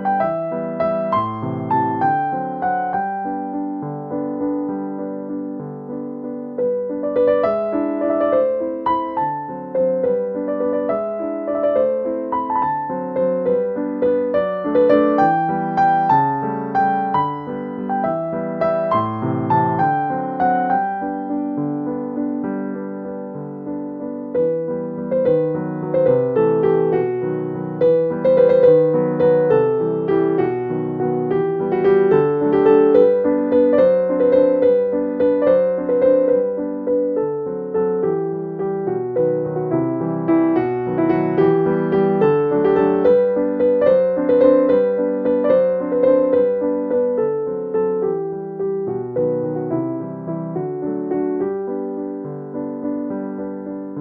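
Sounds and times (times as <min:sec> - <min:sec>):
piano melody: 0:00.0 - 0:54.0.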